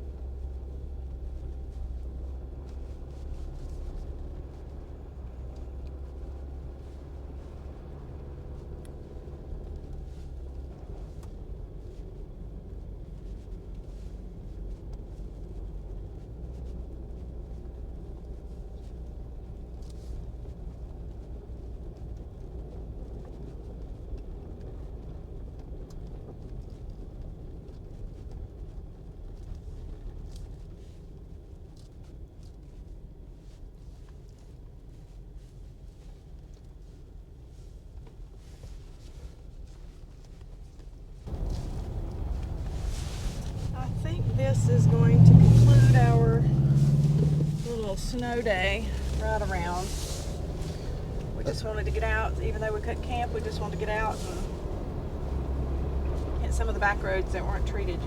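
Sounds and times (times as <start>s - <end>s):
engine and tyres rumbling: 0.0s - 58.0s.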